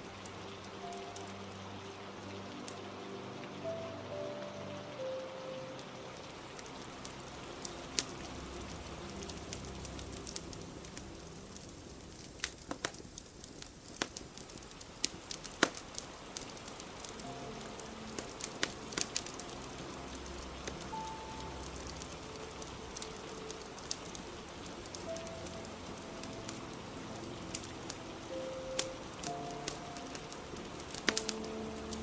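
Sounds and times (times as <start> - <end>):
rain hissing: 0.0 - 32.0
wood fire crackling: 0.0 - 32.0.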